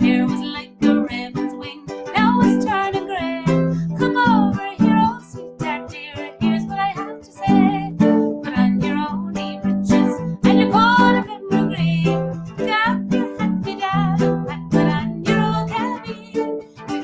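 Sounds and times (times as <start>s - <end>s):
woman singing a ballad: 0.0s - 16.6s
strummed string instrument: 0.0s - 17.0s.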